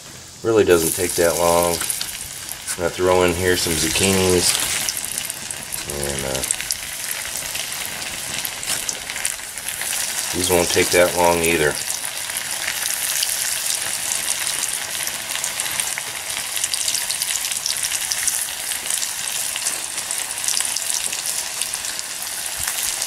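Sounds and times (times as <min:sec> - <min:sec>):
food deep-frying in hot oil: 0:00.3 - 0:23.0.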